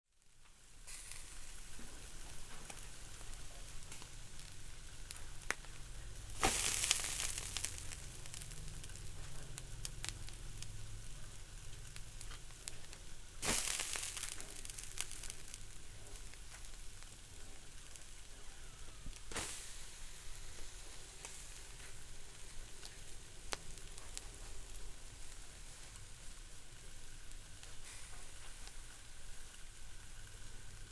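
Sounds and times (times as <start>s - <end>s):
fish sizzling on a grill: 0.1s - 30.9s
sharp crackles: 0.1s - 30.9s.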